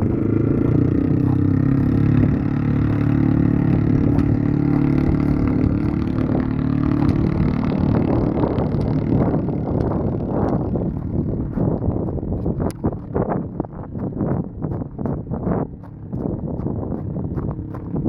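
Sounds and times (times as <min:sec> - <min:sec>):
exhaust crackling pops: 0:00.0 - 0:18.0
loud open-exhaust engine running: 0:00.0 - 0:18.0.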